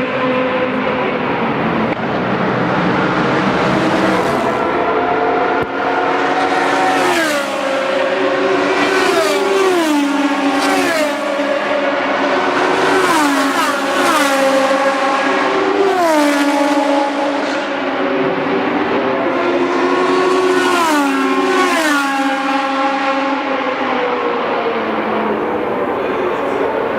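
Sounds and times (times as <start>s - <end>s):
racing car engines passing by: 0.0s - 26.9s.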